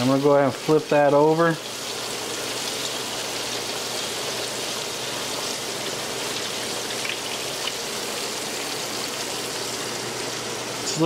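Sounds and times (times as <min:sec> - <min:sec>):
fish deep-frying in oil: 0:00.0 - 0:11.0
oil popping: 0:01.6 - 0:10.5.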